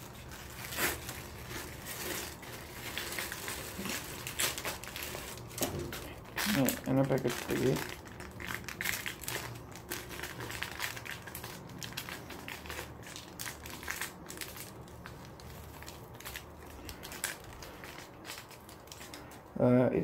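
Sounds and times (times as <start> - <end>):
plastic bag crinkling: 0.0 - 19.6.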